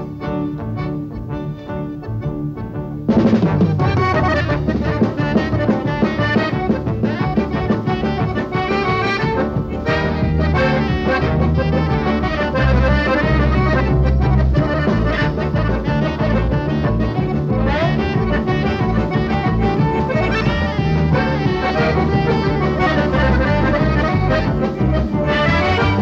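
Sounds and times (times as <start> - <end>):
accordion: 0.0 - 26.0
live band playing instrumental: 0.0 - 26.0.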